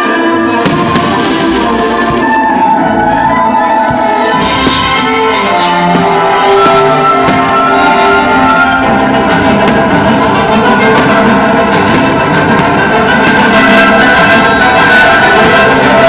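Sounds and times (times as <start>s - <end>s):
orchestral music: 0.0s - 16.0s
fireworks popping: 0.6s - 2.5s, 3.8s - 16.0s.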